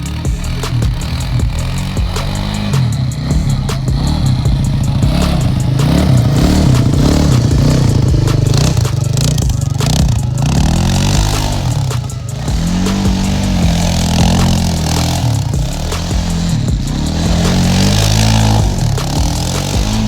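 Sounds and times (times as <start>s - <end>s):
atv engine revving: 0.0s - 20.0s
rattling: 0.0s - 20.0s.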